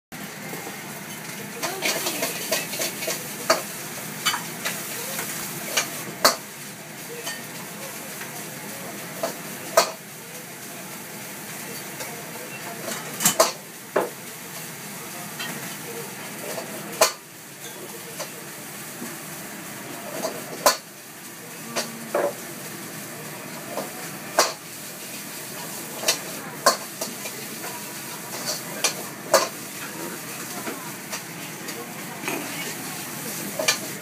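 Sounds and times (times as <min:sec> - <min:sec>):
food sizzling in a wok: 0:00.2 - 0:34.0.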